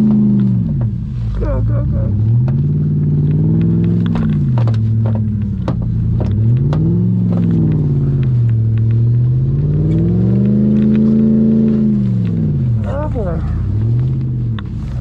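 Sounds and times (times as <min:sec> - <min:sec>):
snowmobile engine revving: 0:01.3 - 0:05.0, 0:06.4 - 0:15.0.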